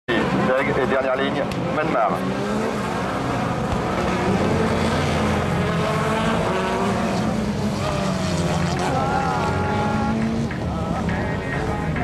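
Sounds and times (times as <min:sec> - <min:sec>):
race car engines revving: 0:00.1 - 0:12.0.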